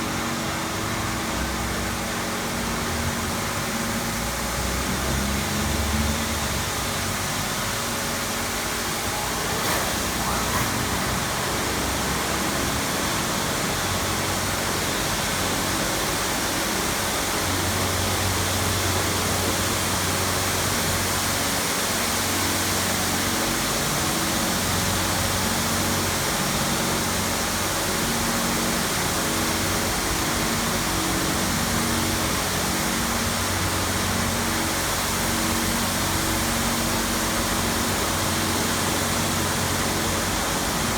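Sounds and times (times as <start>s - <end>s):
high-pressure water spray hiss: 0.1s - 40.9s.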